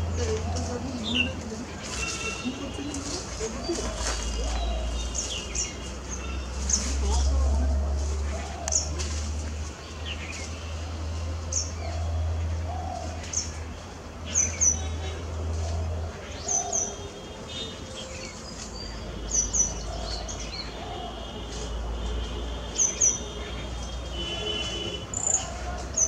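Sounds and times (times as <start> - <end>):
wild birds calling and chirping: 0.0 - 21.8, 22.6 - 26.0.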